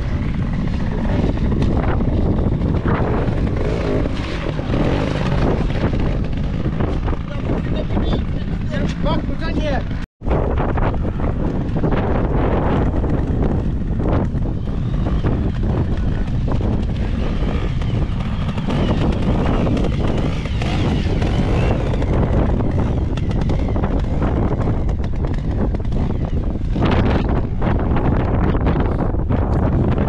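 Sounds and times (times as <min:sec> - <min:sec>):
motorcycle engines running: 0:00.0 - 0:30.0
wind buffeting microphone: 0:00.0 - 0:30.0.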